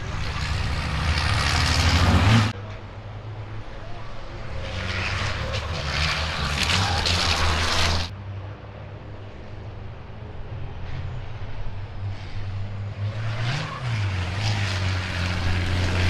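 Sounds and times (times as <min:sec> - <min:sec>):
racing truck diesel engines: 0:00.0 - 0:16.0.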